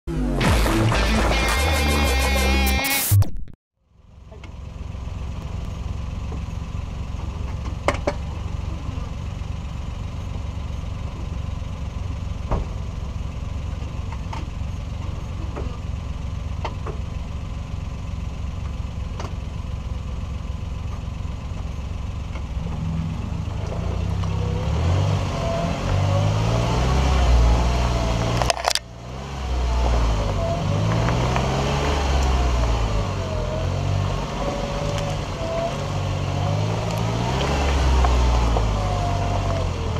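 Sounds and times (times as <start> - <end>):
car engine running: 3.8 - 39.9.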